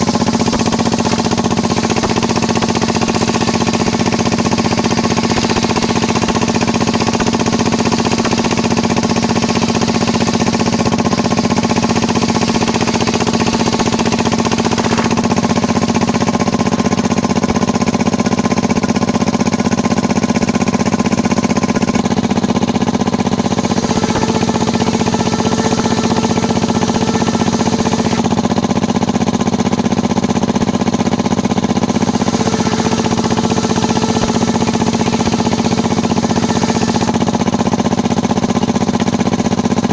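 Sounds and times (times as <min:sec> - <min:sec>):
circular sawmill droning: 0:00.0 - 0:39.9.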